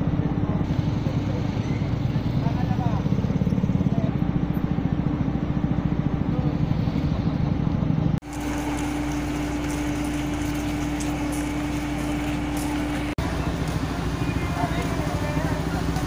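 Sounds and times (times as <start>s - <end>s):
motorcycle engines rumbling: 0.0s - 16.0s
steady machine hum: 0.0s - 16.0s.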